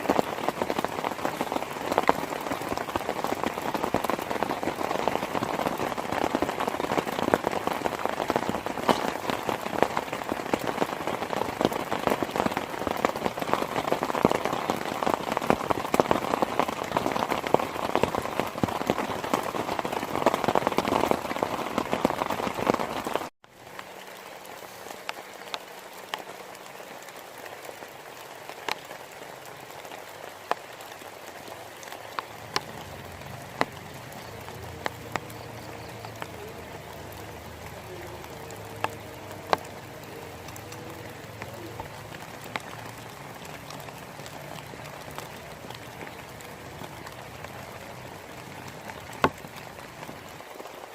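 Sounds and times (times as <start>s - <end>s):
heavy rain pelting down: 0.0s - 50.9s
raindrops ticking: 0.0s - 50.9s.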